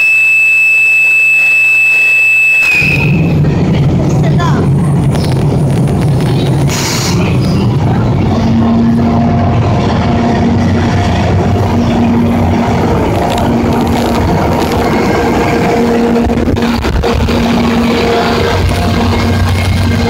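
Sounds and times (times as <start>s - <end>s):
locomotive hum: 0.0s - 20.0s
train rolling rumble: 0.8s - 20.0s.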